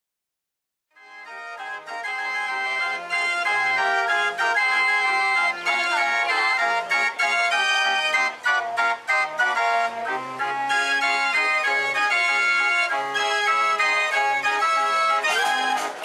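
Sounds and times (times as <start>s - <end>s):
organ music: 1.0s - 16.0s.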